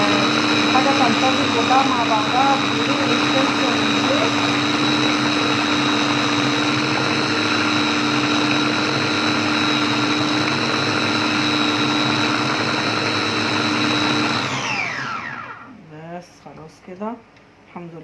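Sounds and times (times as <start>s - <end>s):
electric blender running: 0.0s - 15.7s.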